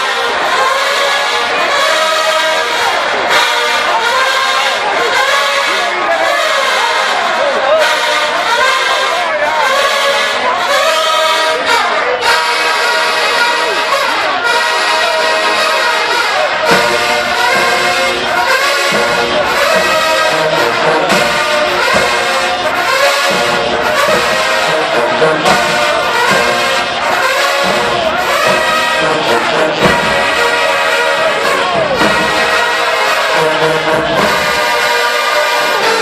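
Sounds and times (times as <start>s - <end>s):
marching band brass playing: 0.0s - 36.0s.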